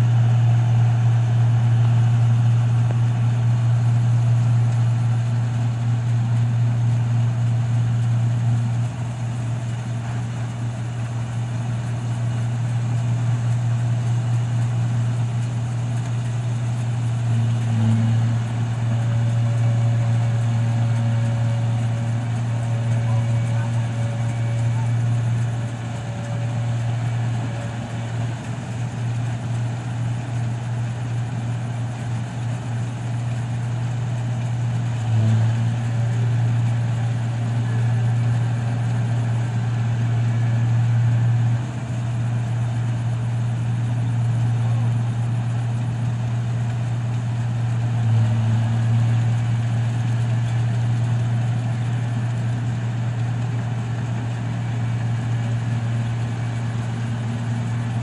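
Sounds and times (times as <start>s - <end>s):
combine harvester engine droning: 0.0s - 58.0s.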